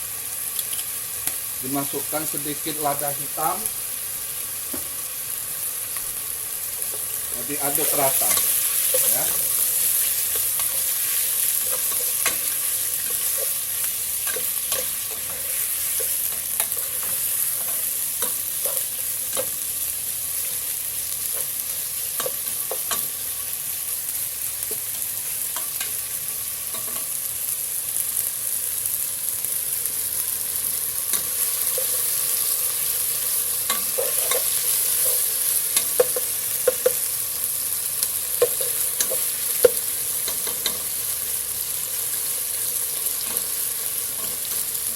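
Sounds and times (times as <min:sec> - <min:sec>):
chicken sizzling in a pan: 0:00.0 - 0:44.9.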